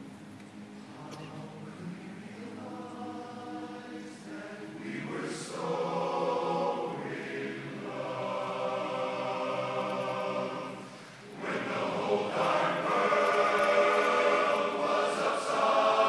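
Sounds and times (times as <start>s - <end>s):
men's chorus singing a cappella: 0.9s - 16.0s.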